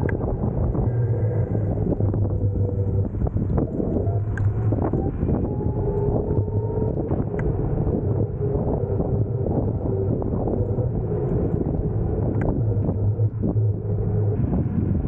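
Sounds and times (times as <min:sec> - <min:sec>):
faint steady whine: 0:00.0 - 0:15.0
wind buffeting microphone: 0:00.0 - 0:15.0.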